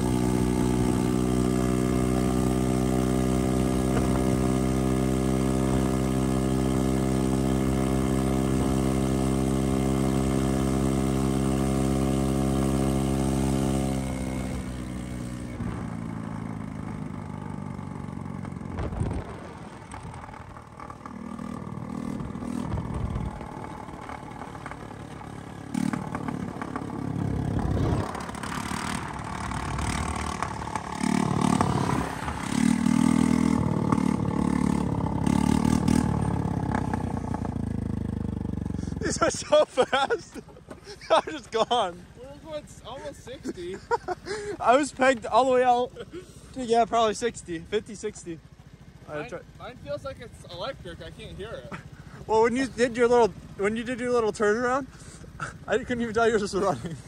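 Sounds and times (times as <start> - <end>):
moped engine under throttle: 0.0 - 57.0
road noise: 0.0 - 57.0.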